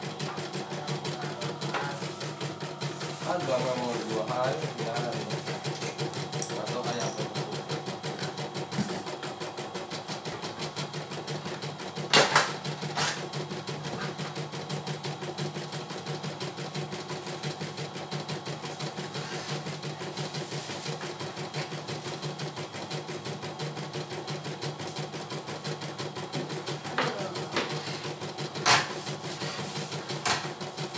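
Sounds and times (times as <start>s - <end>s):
embroidery machine stitching: 0.0s - 30.9s.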